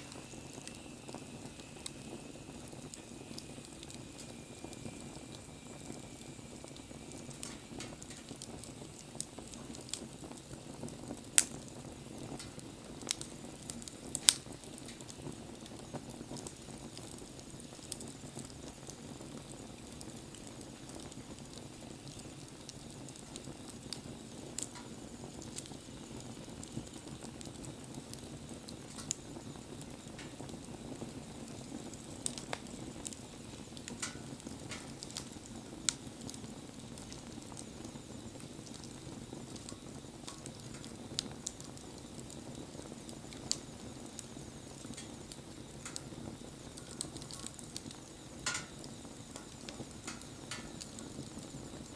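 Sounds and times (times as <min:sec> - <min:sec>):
bonfire burning: 0:00.0 - 0:51.9
burning wood popping and crackling: 0:00.0 - 0:51.9.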